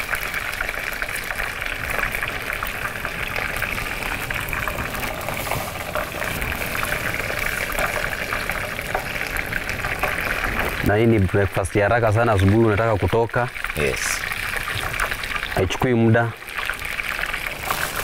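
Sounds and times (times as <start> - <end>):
water boiling in a pot: 0.0 - 18.0.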